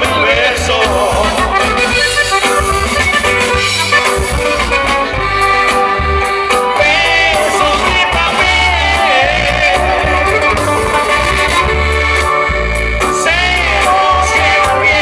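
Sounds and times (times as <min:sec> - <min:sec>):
accordion melody: 0:00.0 - 0:15.0
pulsing bass line: 0:00.0 - 0:15.0.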